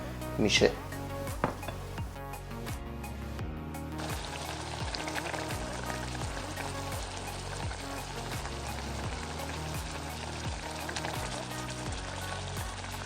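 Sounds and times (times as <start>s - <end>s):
sauce bubbling and sizzling: 0.0s - 2.3s, 3.4s - 13.0s
background music: 0.0s - 13.0s.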